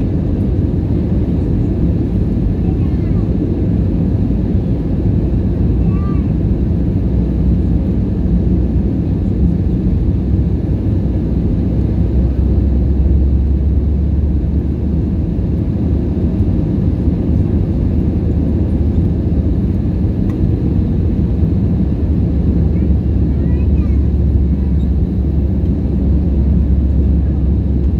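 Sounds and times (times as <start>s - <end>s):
airplane cabin rumble: 0.0s - 27.9s.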